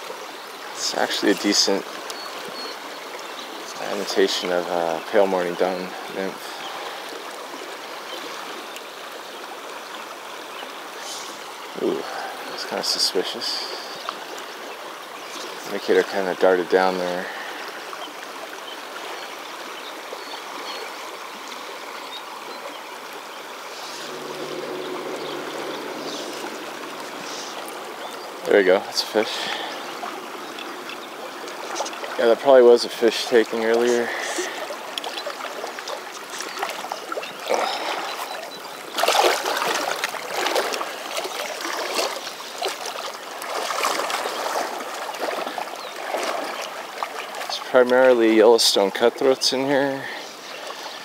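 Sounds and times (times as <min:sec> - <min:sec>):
river current rushing: 0:00.0 - 0:51.0.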